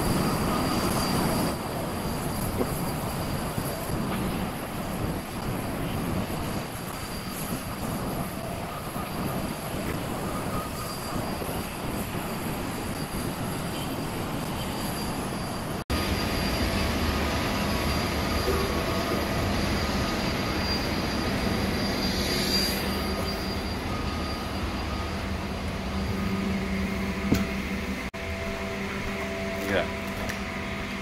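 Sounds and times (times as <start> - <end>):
machinery drone with high whine: 0.0 - 31.0.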